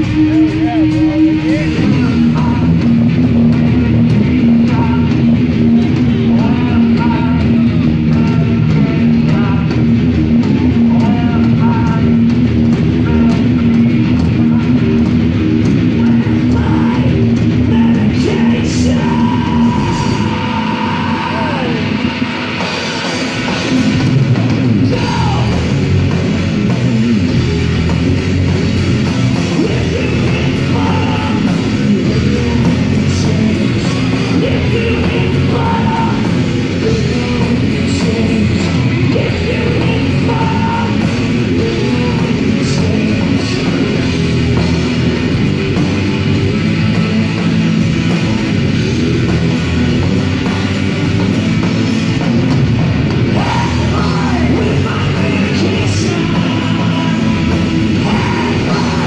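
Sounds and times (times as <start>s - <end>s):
distorted electric guitars: 0.0s - 59.0s
drum kit: 0.0s - 59.0s
live heavy metal band: 0.0s - 59.0s.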